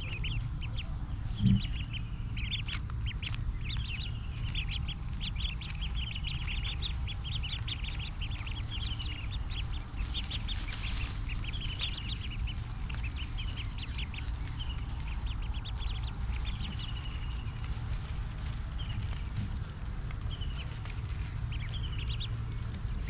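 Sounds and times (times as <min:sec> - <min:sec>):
ducklings peeping: 0:00.0 - 0:23.0
low steady rumble: 0:00.0 - 0:23.0.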